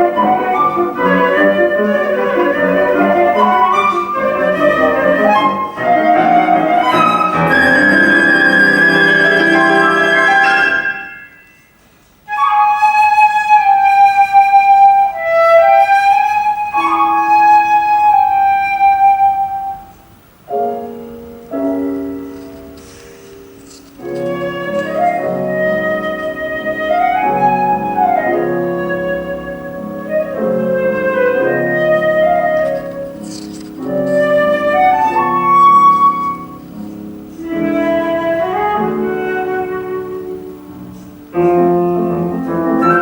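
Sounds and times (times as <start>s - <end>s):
flute: 0.0s - 20.7s, 23.7s - 43.0s
piano: 0.0s - 43.0s.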